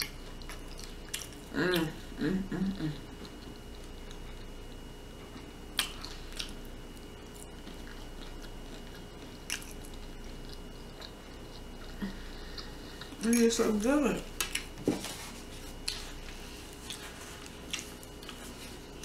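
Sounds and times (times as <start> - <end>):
chewing and mouth sounds: 0.0 - 19.0.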